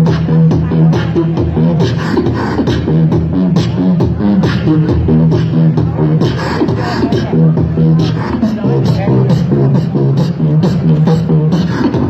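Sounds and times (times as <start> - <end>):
beatboxing through a loudspeaker: 0.0 - 12.0
low bass notes: 0.0 - 12.0.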